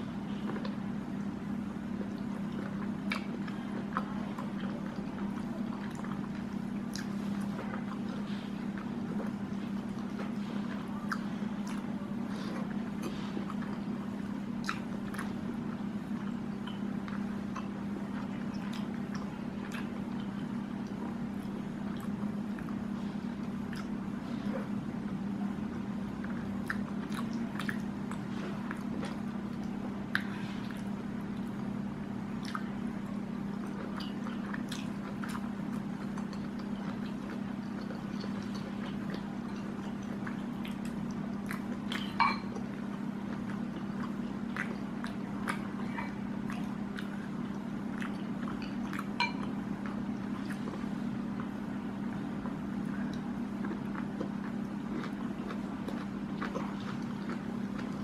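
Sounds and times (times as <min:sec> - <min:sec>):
steady low hum: 0:00.0 - 0:58.0
person chewing with wet smacks: 0:00.3 - 0:58.0.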